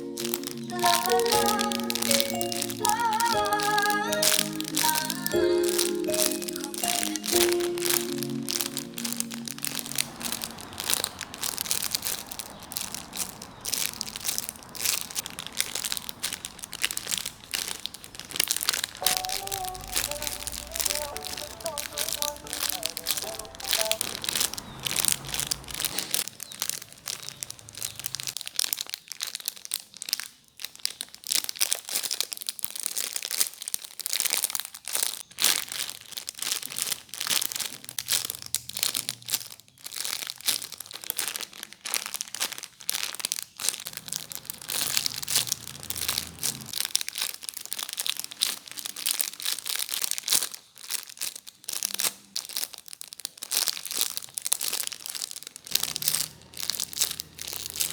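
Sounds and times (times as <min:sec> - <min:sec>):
plastic crinkling and crackling: 0:00.0 - 0:57.9.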